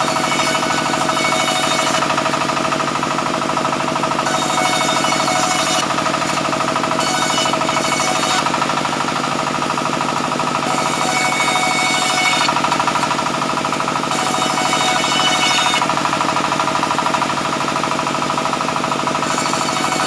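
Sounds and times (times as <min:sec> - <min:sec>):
saw blade cutting wood: 0:00.0 - 0:20.0
sawmill engine pulsing: 0:00.0 - 0:20.0.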